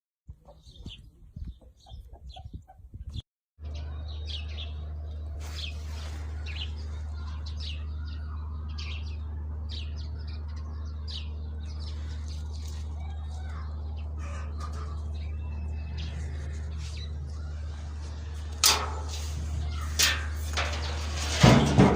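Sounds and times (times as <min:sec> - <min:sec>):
birds chirping: 0:00.3 - 0:21.9
steady low hum: 0:03.6 - 0:21.9.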